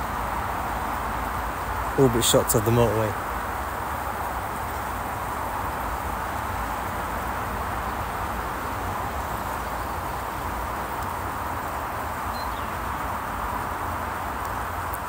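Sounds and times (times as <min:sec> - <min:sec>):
distant motorway traffic roar: 0:00.0 - 0:15.0.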